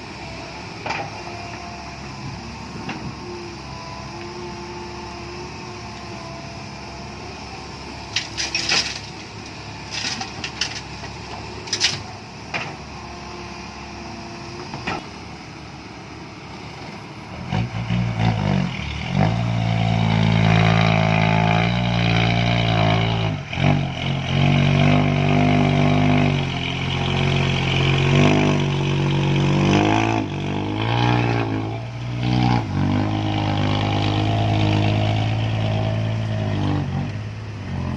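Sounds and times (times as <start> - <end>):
heavy diesel engine revving: 0.0 - 37.9.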